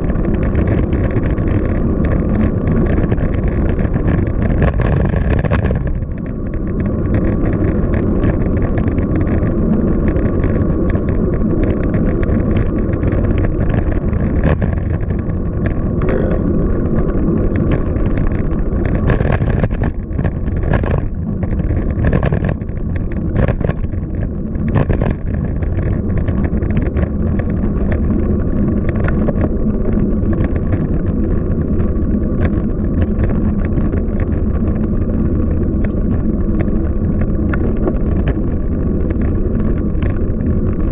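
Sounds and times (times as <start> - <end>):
road noise: 0.0 - 40.9
wind on microphone: 0.0 - 40.9.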